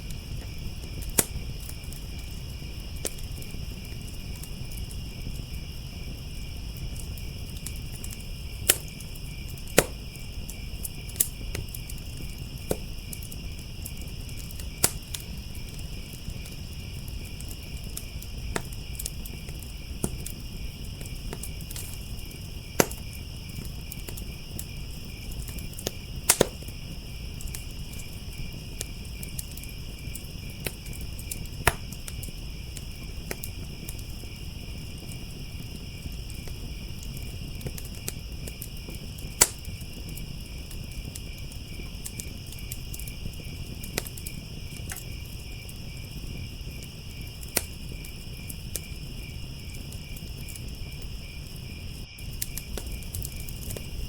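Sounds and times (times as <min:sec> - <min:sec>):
crickets chirping: 0:00.0 - 0:54.0
wood fire crackling and popping: 0:00.0 - 0:54.0.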